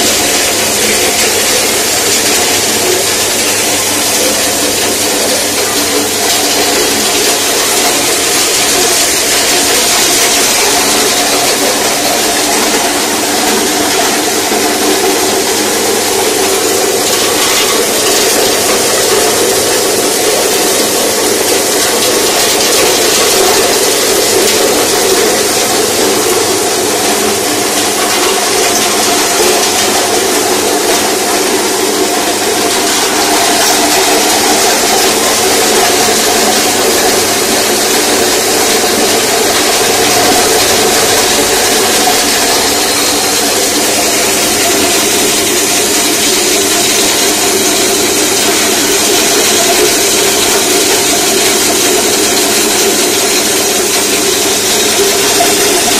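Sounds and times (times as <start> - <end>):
cutting machine whirring: 0.0 - 55.9.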